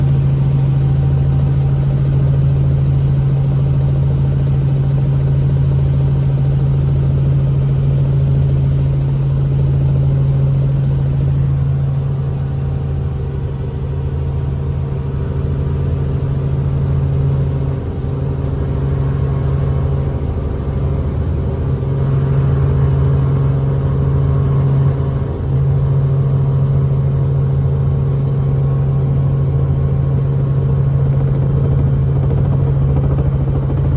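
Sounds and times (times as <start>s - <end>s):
helicopter rotor and engine drone: 0.0s - 33.9s.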